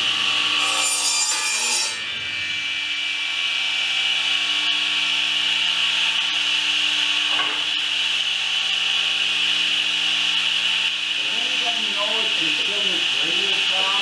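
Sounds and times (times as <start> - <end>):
power tool cutting wood: 0.0 - 14.0.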